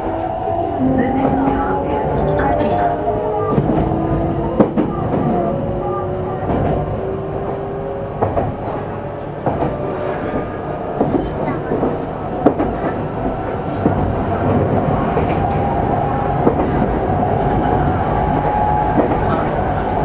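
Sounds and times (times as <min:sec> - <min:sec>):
train rumble inside car: 0:00.0 - 0:20.0.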